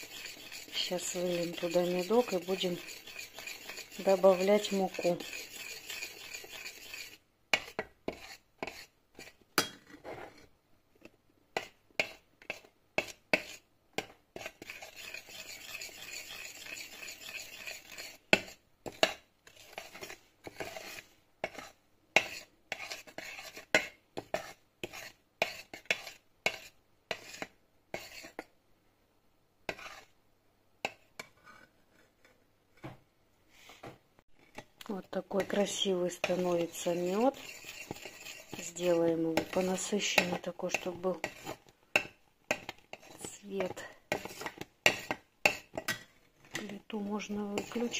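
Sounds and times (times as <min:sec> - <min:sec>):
utensil scraping and tapping saucepan: 0:00.0 - 0:10.4, 0:11.0 - 0:28.5, 0:29.7 - 0:30.1, 0:30.8 - 0:32.0, 0:34.5 - 0:47.9.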